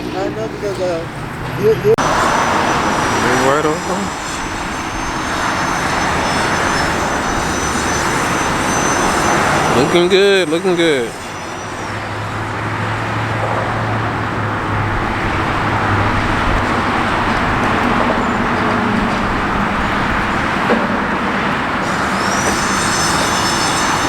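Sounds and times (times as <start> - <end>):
engine running: 0.0 - 24.0
road traffic: 0.0 - 24.0.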